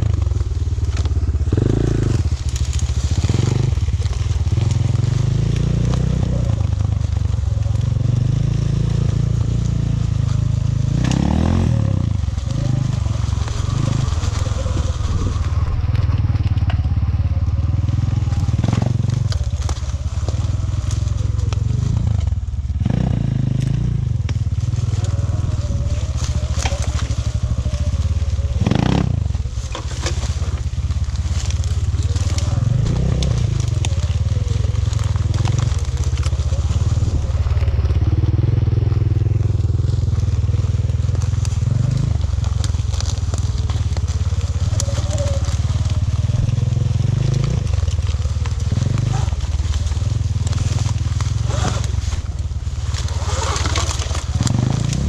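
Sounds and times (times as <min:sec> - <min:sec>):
ground crunching under wheels: 0:00.0 - 0:55.0
vehicle engine low rumble: 0:00.0 - 0:55.0.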